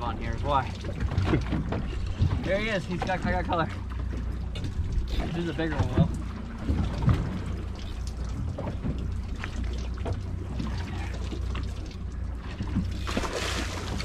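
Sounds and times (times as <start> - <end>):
boat engine idling: 0.0 - 14.0
water lapping against boat hull: 0.0 - 14.0.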